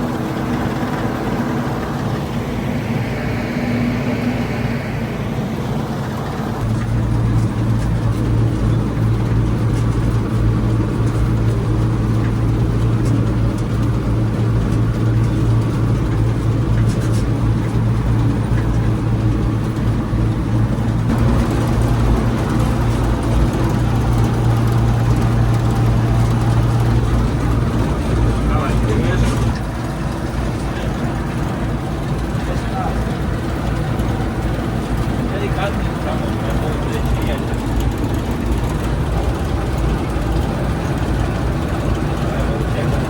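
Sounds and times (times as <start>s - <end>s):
combine harvester drone: 0.0s - 43.0s.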